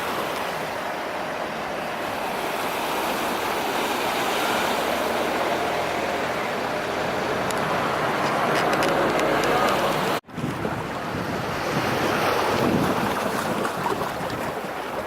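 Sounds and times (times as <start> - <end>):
waves breaking on shore: 0.0 - 15.0.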